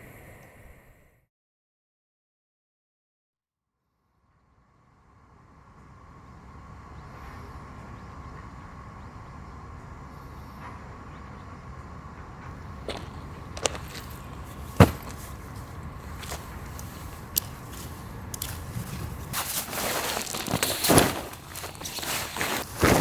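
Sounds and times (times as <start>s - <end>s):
faint constant hum: 4.2s - 23.0s
low outdoor rumble: 4.6s - 23.0s.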